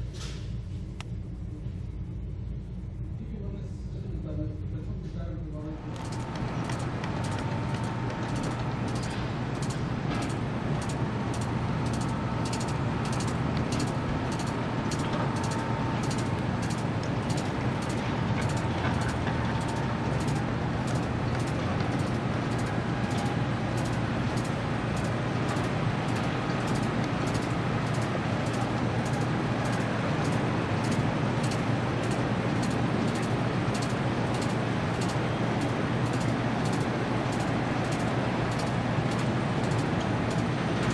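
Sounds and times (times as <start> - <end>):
faint steady whine: 0.0 - 40.9
low engine drone: 0.0 - 40.9
city traffic: 5.8 - 40.9.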